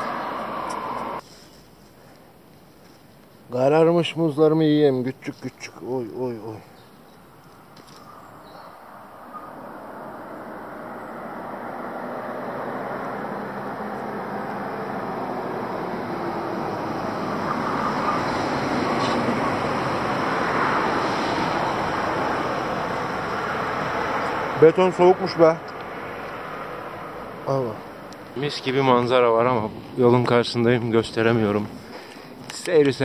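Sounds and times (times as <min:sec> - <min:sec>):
vehicle engine and tyre noise: 0:00.0 - 0:03.6, 0:05.2 - 0:33.0.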